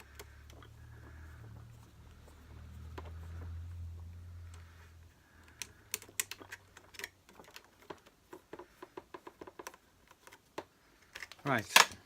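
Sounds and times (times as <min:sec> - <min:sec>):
small clicks and taps: 0:00.0 - 0:12.0.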